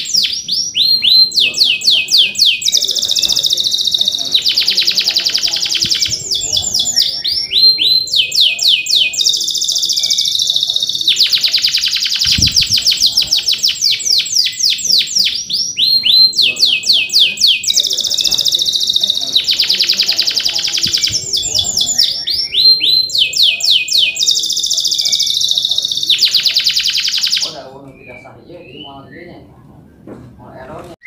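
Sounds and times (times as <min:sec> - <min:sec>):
canary singing trills: 0:00.0 - 0:29.6.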